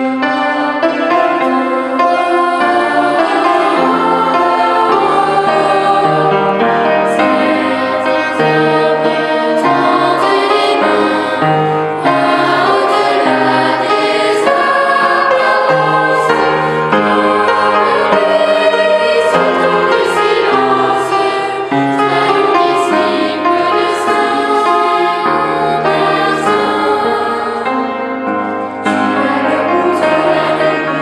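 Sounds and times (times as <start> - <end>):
children's choir singing a hymn: 0.0 - 31.0.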